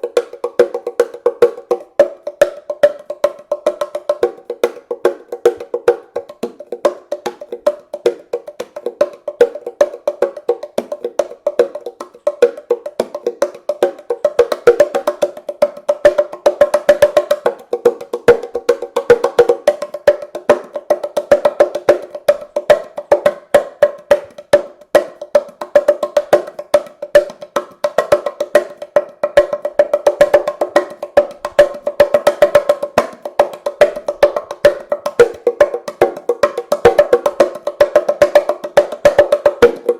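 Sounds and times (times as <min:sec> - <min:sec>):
cajon strikes by hand: 0:00.0 - 0:39.9.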